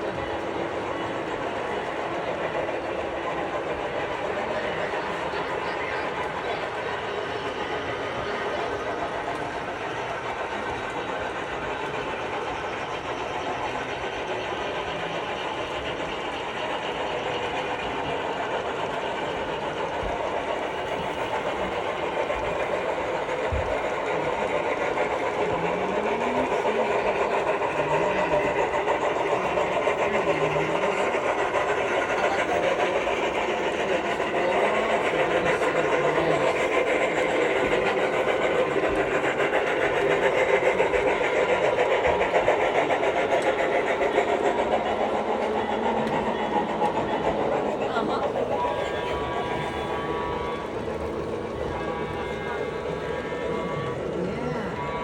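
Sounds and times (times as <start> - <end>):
train running: 0.0 - 55.0.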